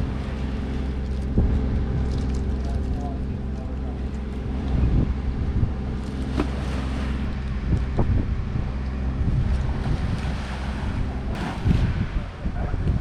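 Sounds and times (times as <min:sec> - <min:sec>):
low motor hum: 0:00.0 - 0:13.0
wind noise on microphone: 0:00.0 - 0:13.0.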